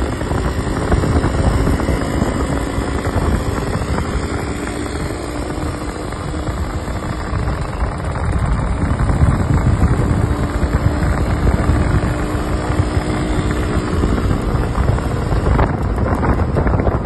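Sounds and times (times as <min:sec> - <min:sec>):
heavy wind: 0:00.0 - 0:17.0
motorcycle engine running: 0:00.0 - 0:17.0
road rumble: 0:00.0 - 0:17.0.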